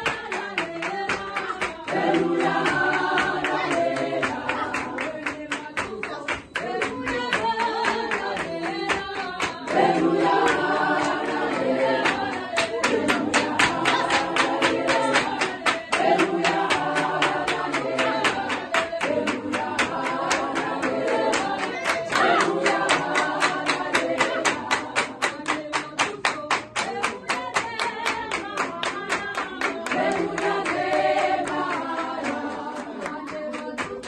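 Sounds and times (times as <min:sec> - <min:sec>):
congregation singing a hymn: 0:00.0 - 0:25.2, 0:27.0 - 0:34.0
handclaps keeping a beat: 0:00.0 - 0:34.0.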